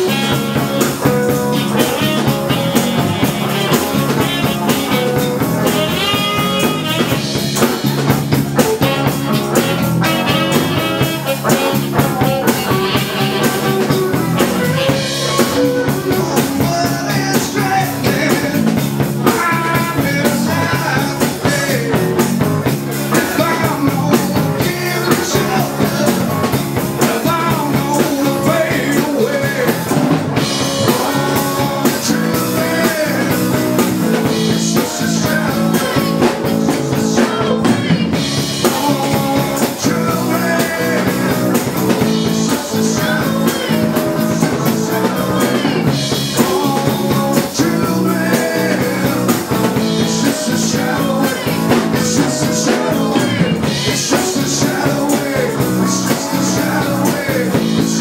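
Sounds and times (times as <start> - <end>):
drum kit beat: 0.0 - 58.0
live rock band playing: 0.0 - 58.0.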